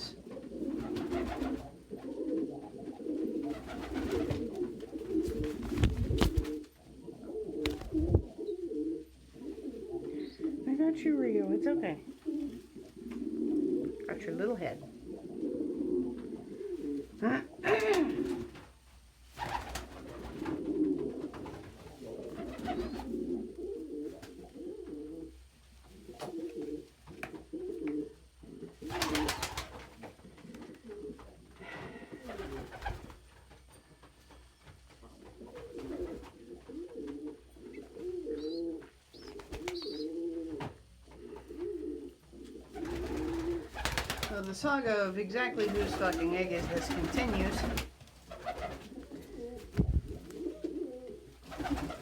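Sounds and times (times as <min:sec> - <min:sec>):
pigeons cooing: 0:00.0 - 0:18.7, 0:19.4 - 0:33.3, 0:35.1 - 0:44.5, 0:45.4 - 0:52.0
rustling: 0:00.3 - 0:44.6.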